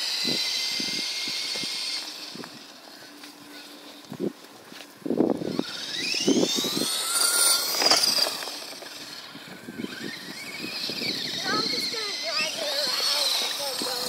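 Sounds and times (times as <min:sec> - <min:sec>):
toy car electric motor whining: 0:00.0 - 0:04.4, 0:05.0 - 0:14.0.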